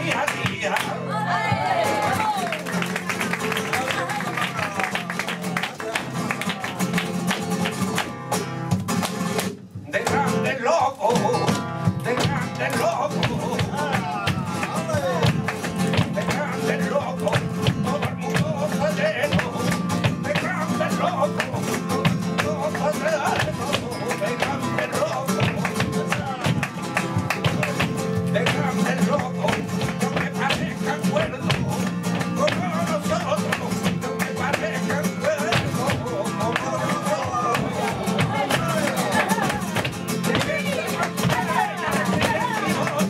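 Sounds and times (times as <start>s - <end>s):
man singing: 0.0s - 2.5s, 9.8s - 43.0s
flamenco guitar: 0.0s - 43.0s.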